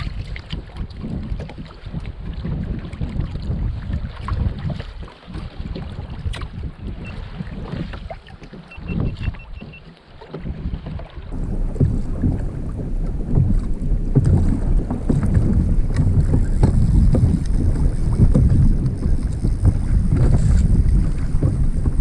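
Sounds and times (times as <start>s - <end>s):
water lapping against kayak hull: 0.0s - 22.0s
wind buffeting microphone: 0.0s - 22.0s.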